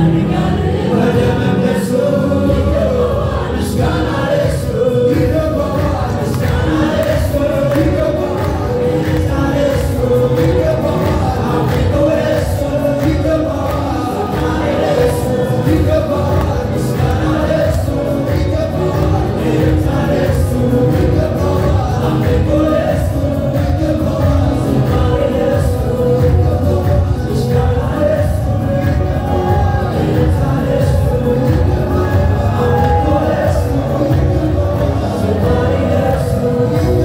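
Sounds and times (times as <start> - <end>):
choir singing gospel: 0.0 - 37.0.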